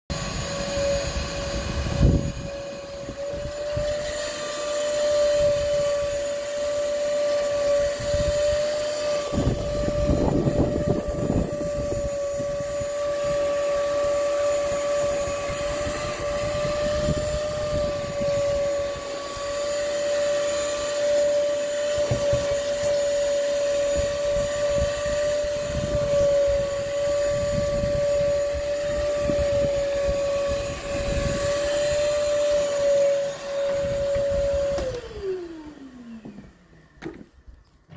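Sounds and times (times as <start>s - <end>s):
shop vacuum whine: 0.1s - 37.9s.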